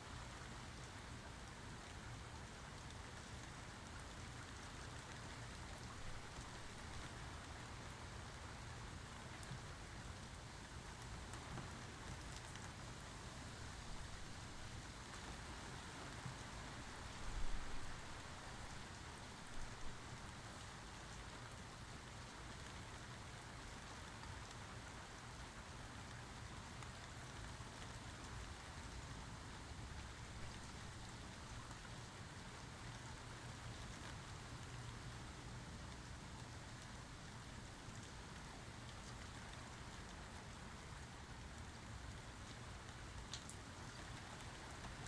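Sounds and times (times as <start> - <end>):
rain pattering: 0.1 - 45.0.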